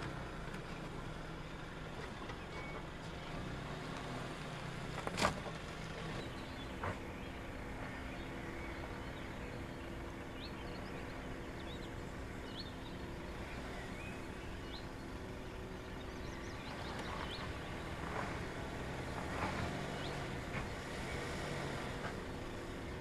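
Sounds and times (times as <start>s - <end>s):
birds chirping: 0.0s - 23.0s
engine running at low revs: 0.0s - 23.0s.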